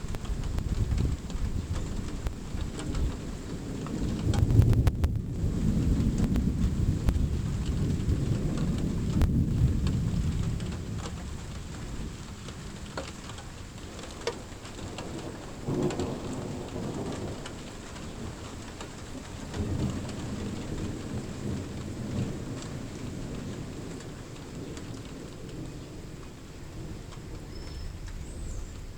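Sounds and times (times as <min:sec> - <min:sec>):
raindrops ticking: 0:00.0 - 0:28.9
steady rain: 0:00.0 - 0:28.9
thunder rumbling: 0:00.0 - 0:28.9.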